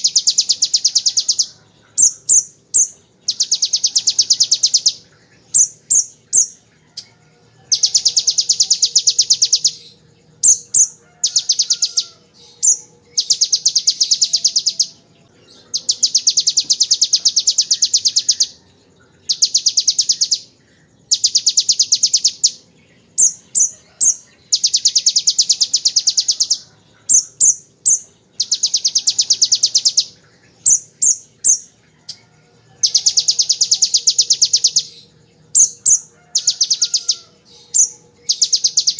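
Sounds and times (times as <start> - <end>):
bird buzzy trills: 0.0 - 38.9.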